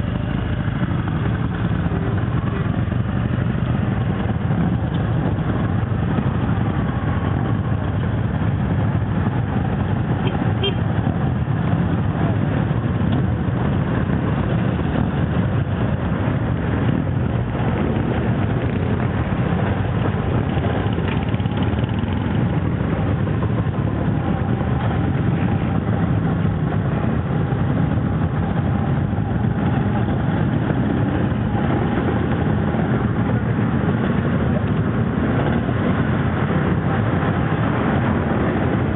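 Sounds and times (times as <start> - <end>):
old motorcycle engines running: 0.0 - 38.9.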